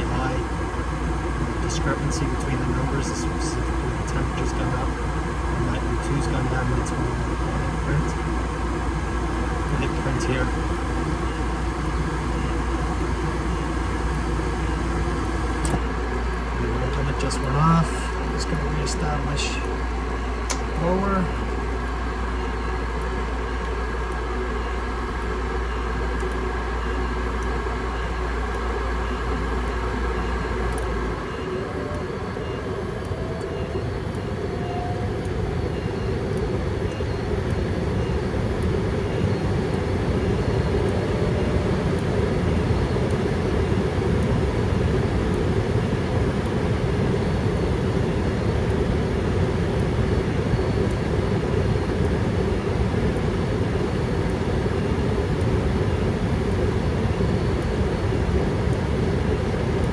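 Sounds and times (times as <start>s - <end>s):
blower rushing air: 0.0s - 59.9s
furnace low hum: 0.0s - 59.9s.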